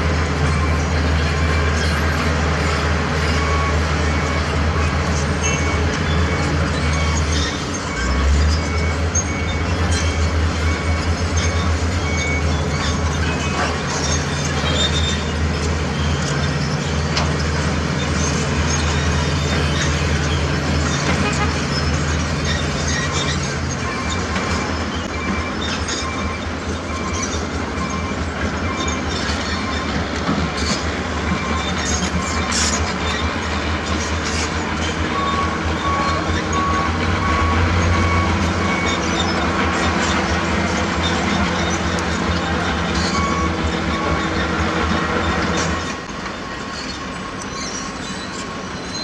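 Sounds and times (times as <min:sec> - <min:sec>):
diesel machinery droning: 0:00.0 - 0:49.0
high-pitched squeaks and clicks: 0:00.4 - 0:49.0.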